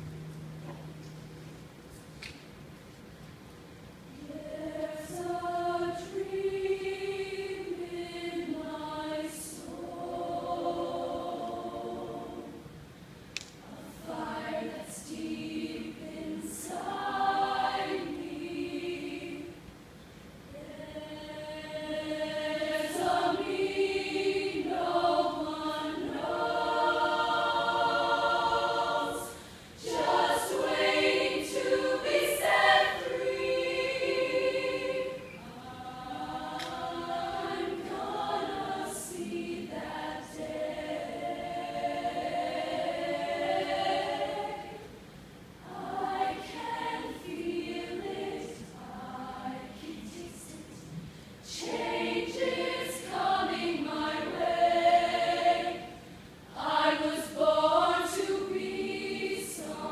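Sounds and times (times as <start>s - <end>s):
women's choir singing: 4.1s - 12.8s, 13.4s - 19.8s, 20.5s - 59.9s.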